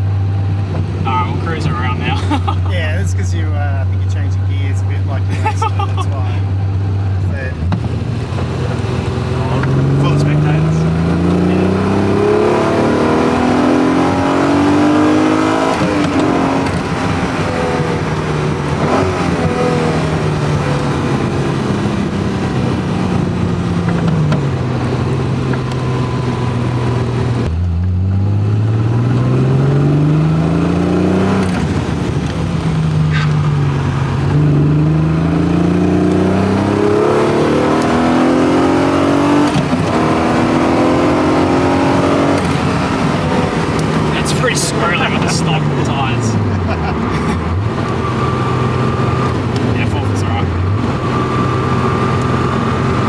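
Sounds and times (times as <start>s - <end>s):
car engine revving through gears: 0.0s - 53.0s.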